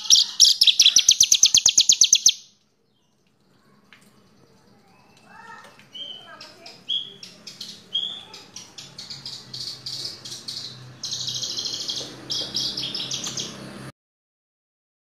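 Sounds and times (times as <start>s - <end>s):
bird singing chirps and trills: 0.0s - 13.9s.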